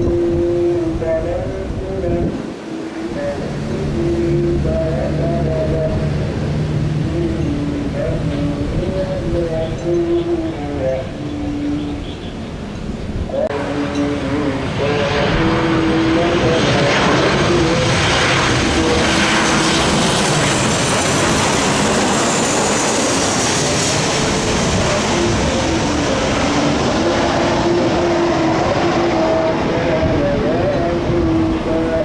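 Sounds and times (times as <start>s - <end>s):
jet airliner passing: 0.0s - 32.0s.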